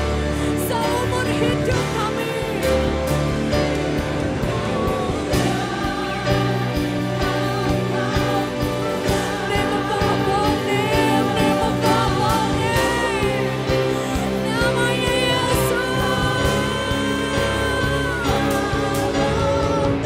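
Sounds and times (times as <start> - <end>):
drums: 0.0 - 20.0
keyboards: 0.0 - 20.0
people singing: 0.0 - 20.0
worship band music: 0.0 - 20.0.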